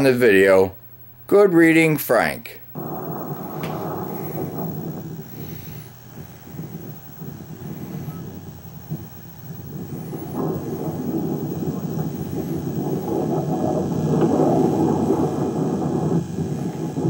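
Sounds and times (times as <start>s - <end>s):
wind buffeting a microphone: 2.8s - 17.0s.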